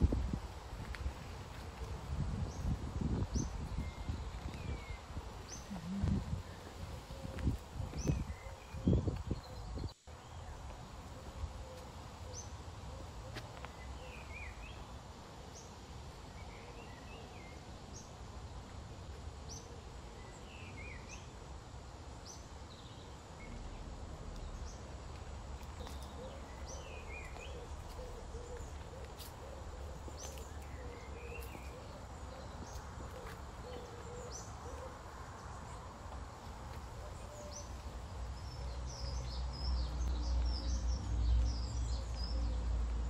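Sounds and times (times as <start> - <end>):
outdoor background noise: 0.0 - 43.0
small birds chirping: 0.3 - 43.0.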